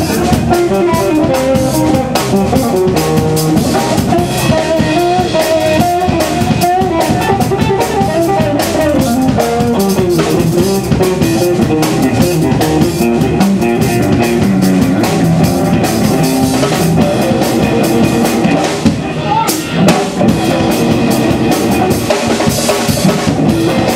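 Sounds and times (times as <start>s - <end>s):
drum kit beat: 0.0s - 23.9s
guitar melody: 0.0s - 23.9s.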